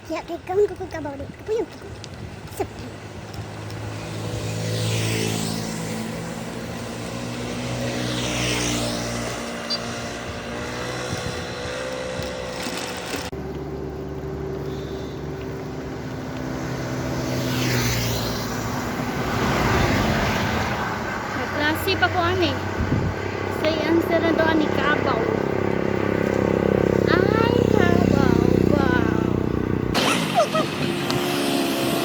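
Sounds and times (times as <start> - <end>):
vehicles whooshing past: 1.8 - 32.0
vehicle engine running: 2.6 - 19.2, 20.9 - 32.0.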